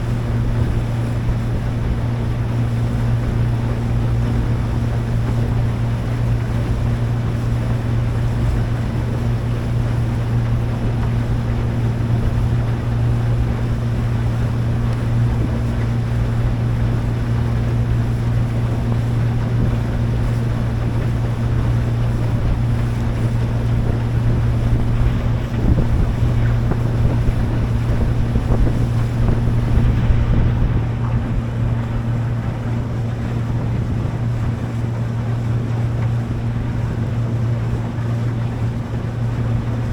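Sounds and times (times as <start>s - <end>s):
motorboat engine humming: 0.0s - 39.9s
water rushing: 0.0s - 39.9s
wind buffeting microphone: 0.0s - 39.9s.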